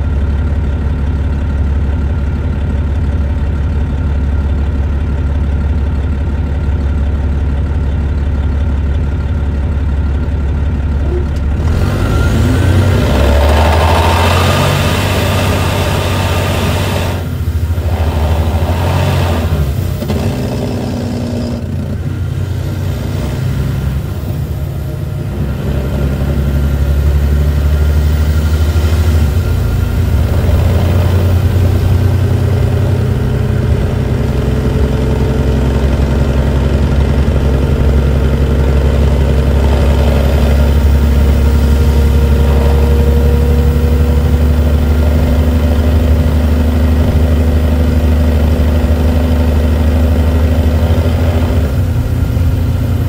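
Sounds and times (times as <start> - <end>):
diesel coach engine running: 0.0 - 53.0.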